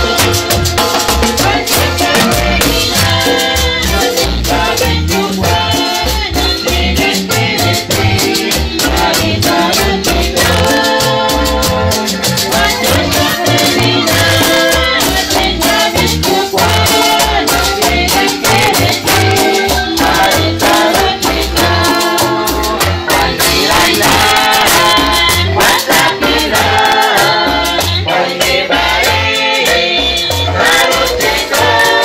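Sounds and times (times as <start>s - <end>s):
upbeat music with bass beat: 0.0s - 32.0s.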